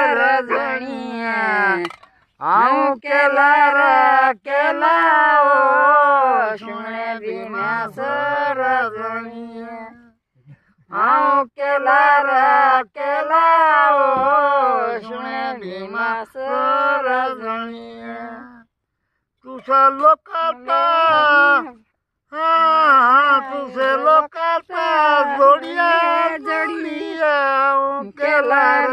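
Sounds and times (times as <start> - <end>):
person singing unaccompanied: 0.0 - 10.2, 10.9 - 18.7, 19.4 - 28.9.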